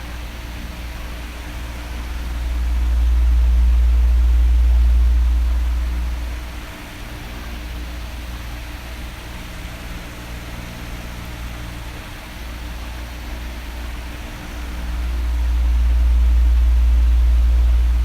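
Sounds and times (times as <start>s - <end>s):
electric fan running: 0.0s - 18.0s.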